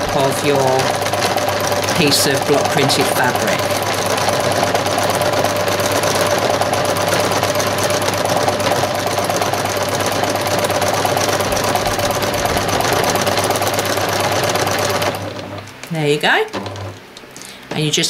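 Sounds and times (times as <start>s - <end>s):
sewing machine stitching: 0.0s - 15.8s, 16.5s - 17.1s.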